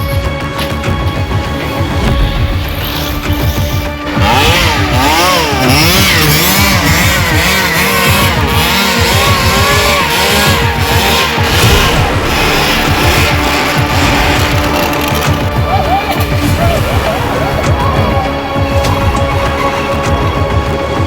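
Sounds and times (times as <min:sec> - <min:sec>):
music with steady beat: 0:00.0 - 0:21.0
engine revving: 0:00.7 - 0:21.0.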